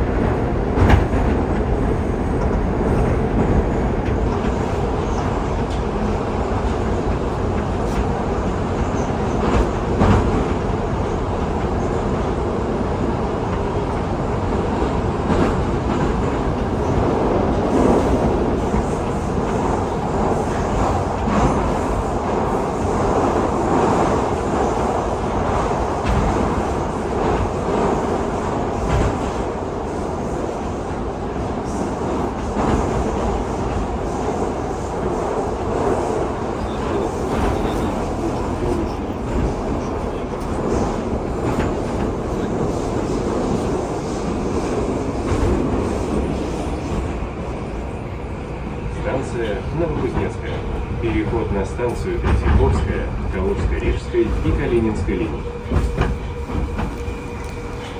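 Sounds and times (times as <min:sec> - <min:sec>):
train wheels rumbling in tunnel: 0:00.0 - 0:57.9.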